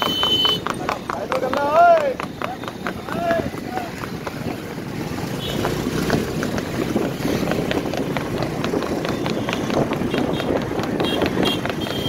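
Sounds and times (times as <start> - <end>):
wind buffeting microphone: 2.1 - 12.0.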